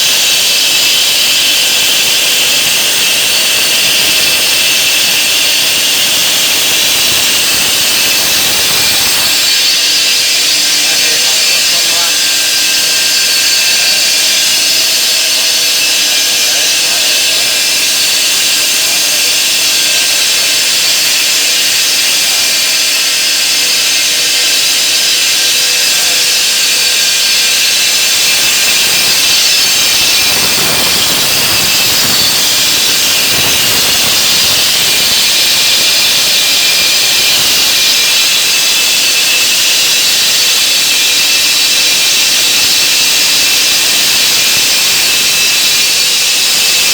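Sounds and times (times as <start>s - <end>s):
saw blade cutting stone: 0.0s - 46.9s.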